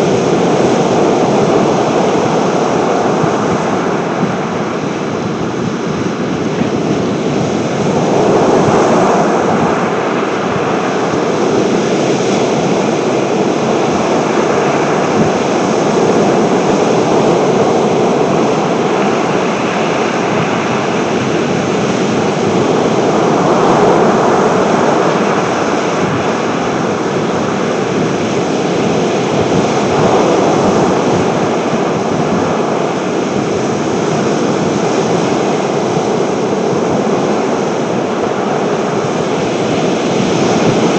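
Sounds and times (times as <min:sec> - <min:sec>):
sea waves: 0:00.0 - 0:40.9
wind: 0:00.0 - 0:40.9.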